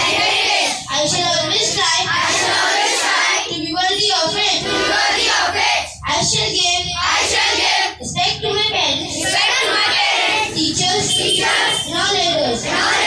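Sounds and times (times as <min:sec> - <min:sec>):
children reciting in unison: 0:00.0 - 0:13.0.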